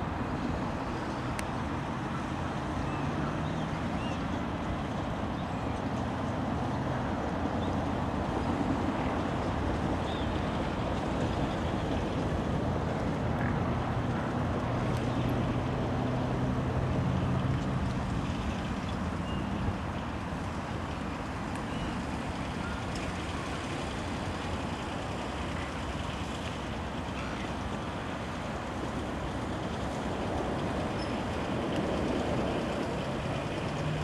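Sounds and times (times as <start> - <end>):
locomotive engine hum: 0.0 - 34.0
steady rushing noise: 0.0 - 34.0.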